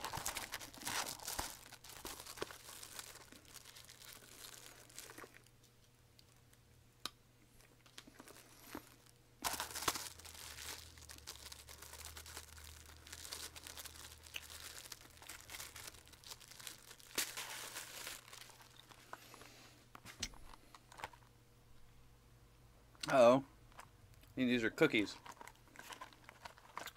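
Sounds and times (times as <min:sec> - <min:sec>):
snack packaging crackling: 0:00.0 - 0:06.6, 0:07.6 - 0:21.3, 0:23.7 - 0:26.9.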